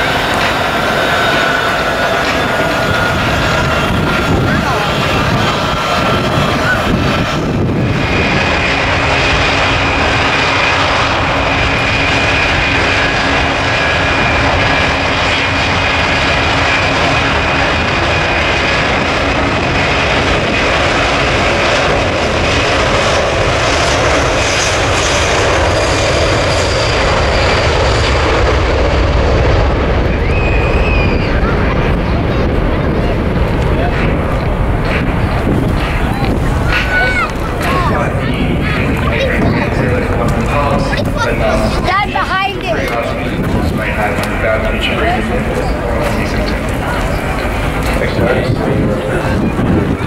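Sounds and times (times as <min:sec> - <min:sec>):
high jet engine whine: 0:00.0 - 0:50.0
jet engines running: 0:00.0 - 0:50.0.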